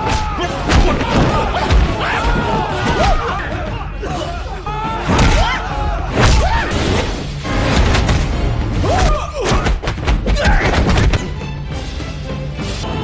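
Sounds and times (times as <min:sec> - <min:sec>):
soundtrack music: 0:00.0 - 0:13.0.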